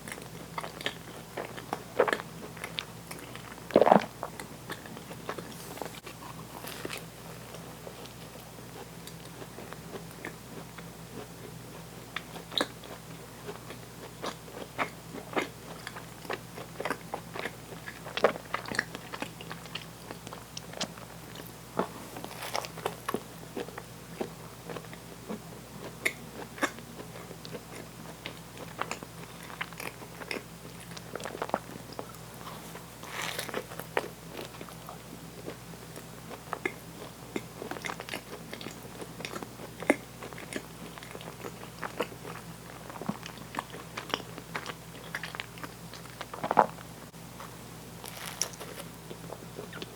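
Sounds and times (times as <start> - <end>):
biting and chewing food: 0.0 - 49.9.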